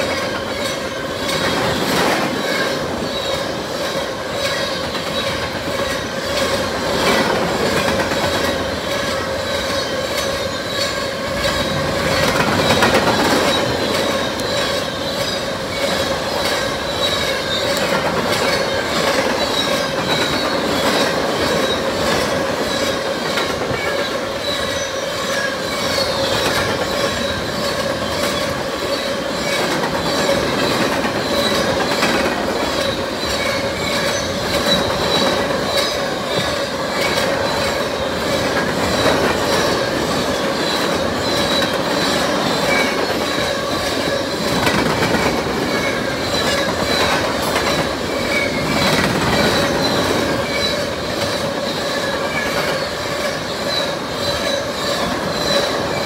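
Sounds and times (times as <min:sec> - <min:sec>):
freight train wheels rumbling: 0:00.0 - 0:56.0
wheels clicking over rail joints: 0:00.0 - 0:56.0
wheels squealing: 0:00.0 - 0:56.0.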